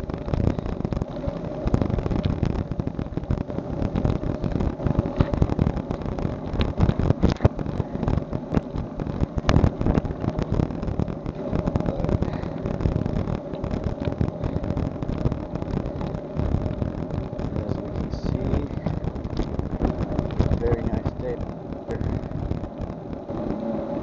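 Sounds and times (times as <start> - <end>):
faint steady hum: 0.0 - 24.0
wind buffeting microphone: 0.0 - 24.0.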